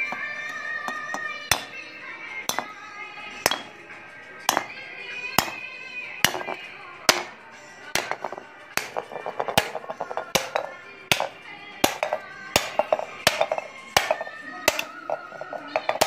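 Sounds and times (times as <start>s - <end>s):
hammer striking clay pot: 0.0s - 1.8s, 2.4s - 2.8s, 3.4s - 3.8s, 4.4s - 16.0s
background music: 0.0s - 16.0s.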